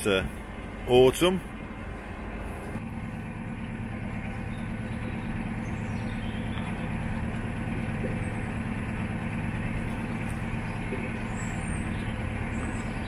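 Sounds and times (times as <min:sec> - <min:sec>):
boat diesel engine drone: 0:00.0 - 0:13.0.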